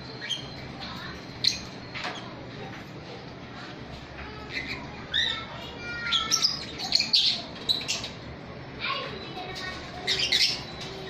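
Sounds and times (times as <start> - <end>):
birds chirping and chattering: 0.0 - 11.0.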